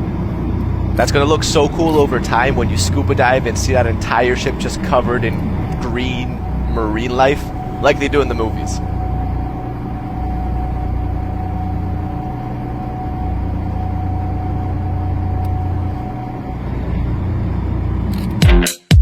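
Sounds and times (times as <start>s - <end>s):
faint steady whine: 0.0s - 18.4s
low engine drone: 0.0s - 18.5s.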